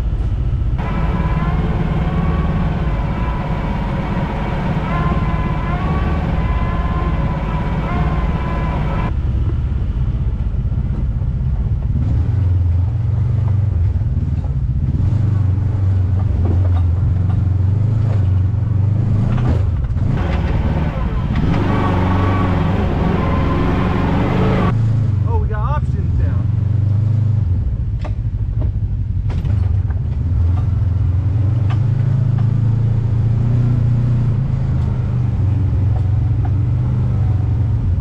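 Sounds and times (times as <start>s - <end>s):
utility vehicle engine droning: 0.0s - 38.0s.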